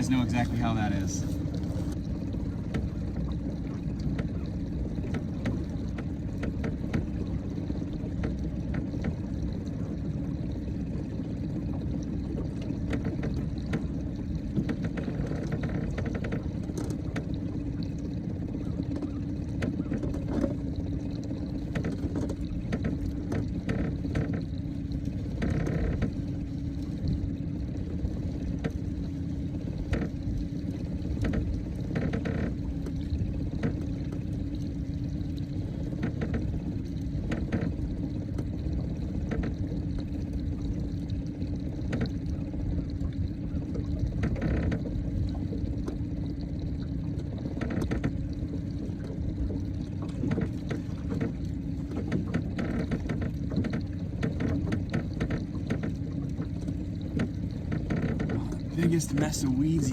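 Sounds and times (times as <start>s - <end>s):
boat motor running: 0.0s - 59.9s
water splashing and lapping: 0.0s - 59.9s.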